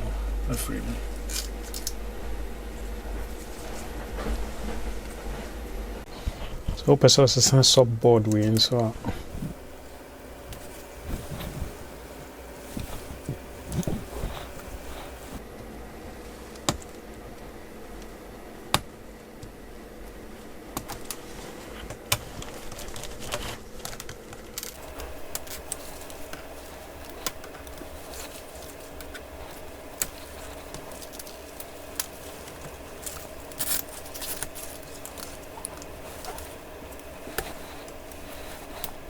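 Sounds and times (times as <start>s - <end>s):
steady background hum: 0.0s - 39.0s.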